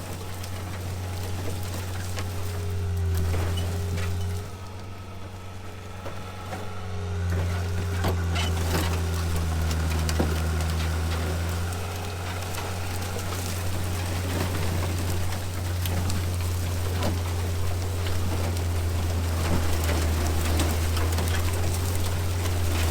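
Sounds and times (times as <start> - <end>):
vehicle engine humming: 0.0 - 22.9
wood and brush cracking: 0.0 - 22.9.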